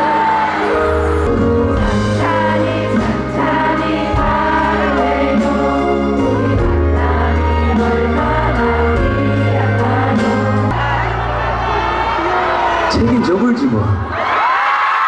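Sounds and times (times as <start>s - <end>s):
choir-like vocals: 0.0s - 13.2s
live band music: 0.0s - 13.3s
held bass line: 0.6s - 13.5s.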